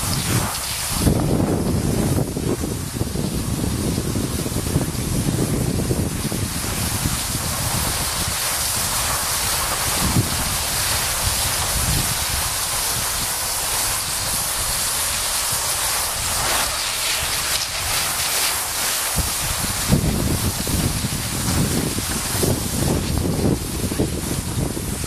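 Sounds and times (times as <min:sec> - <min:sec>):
skis hissing on snow: 0:00.0 - 0:25.0
wind buffeting microphone: 0:00.0 - 0:25.0.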